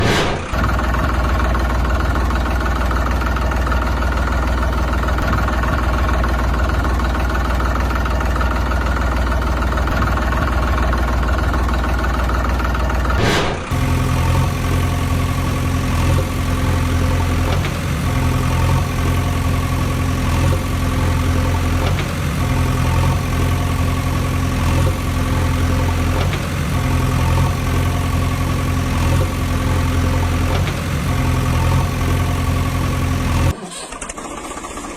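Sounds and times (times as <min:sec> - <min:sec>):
vehicle engine running: 0:00.0 - 0:34.9
engine idling with uneven throb: 0:00.4 - 0:34.9.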